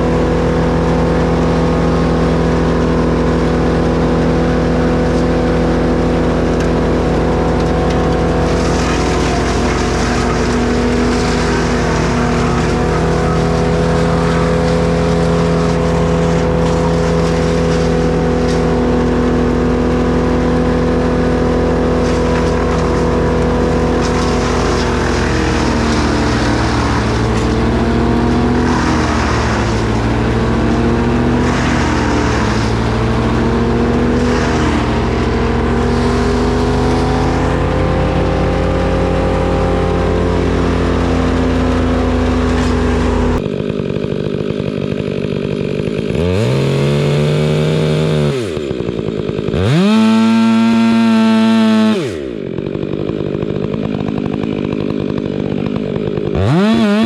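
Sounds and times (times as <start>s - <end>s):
chainsaw revving: 0.0s - 57.0s
chainsaws running: 0.0s - 57.0s.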